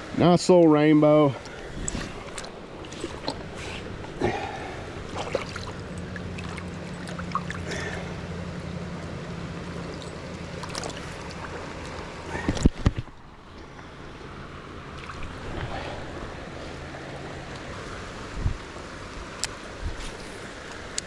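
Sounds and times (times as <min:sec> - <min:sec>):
river water rushing: 0:00.9 - 0:21.0
low steady hum: 0:01.3 - 0:19.0.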